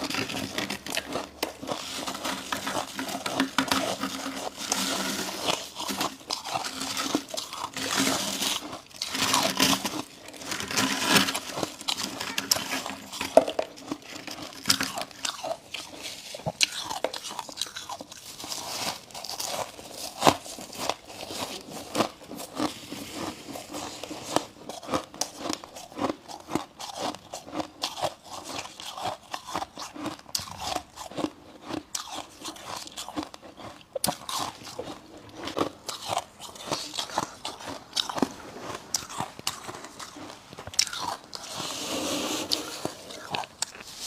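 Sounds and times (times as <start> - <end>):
crunching on ice: 0.0 - 44.0.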